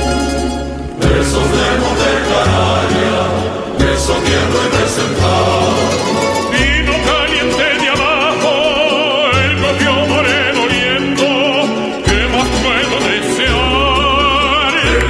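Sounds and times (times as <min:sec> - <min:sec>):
bass line: 0:00.0 - 0:15.0.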